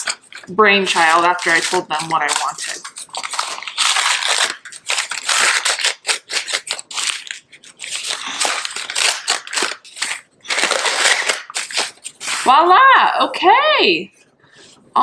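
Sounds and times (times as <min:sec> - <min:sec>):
paper masking crinkling: 0:00.0 - 0:12.6.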